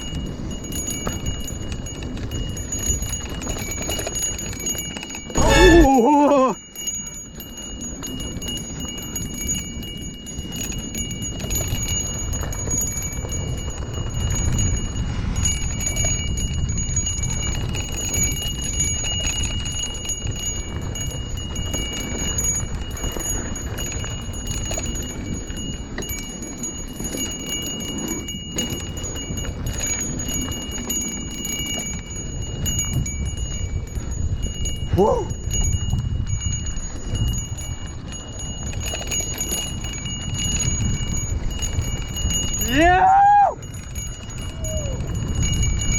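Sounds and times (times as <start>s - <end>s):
bicycle bell ringing: 0.0s - 45.9s
wind and road noise: 0.0s - 45.9s.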